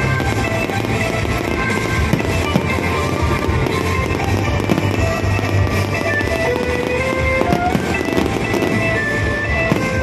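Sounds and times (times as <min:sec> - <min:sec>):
fireworks crackling and banging: 0:00.0 - 0:10.0
music playing: 0:00.0 - 0:10.0.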